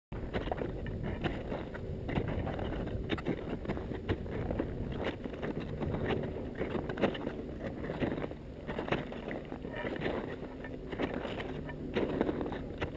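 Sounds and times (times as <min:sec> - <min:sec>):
wind rumble on microphone: 0:00.1 - 0:12.9
boots crunching in snow: 0:00.2 - 0:12.9
trekking poles clicking: 0:00.2 - 0:12.9.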